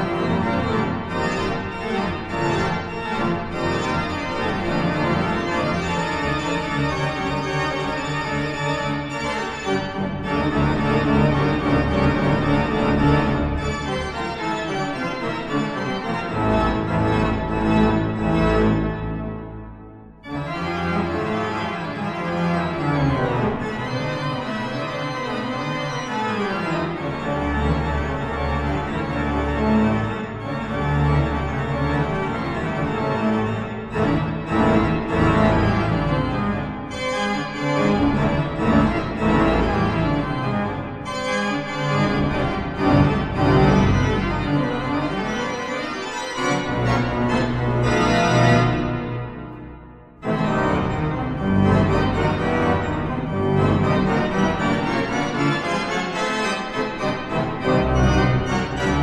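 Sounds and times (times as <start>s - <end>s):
deep organ pedal notes: 0.0s - 59.0s
pipe organ chords: 0.0s - 59.0s.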